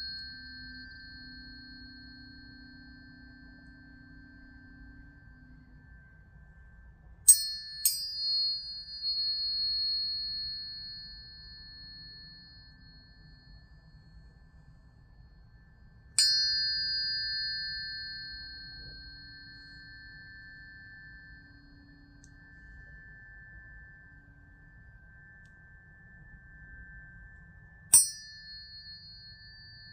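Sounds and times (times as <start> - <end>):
high pure ringing tone: 0.0 - 29.9
low ringing tone: 0.0 - 29.9
tuning fork metallic strikes: 0.0 - 29.9.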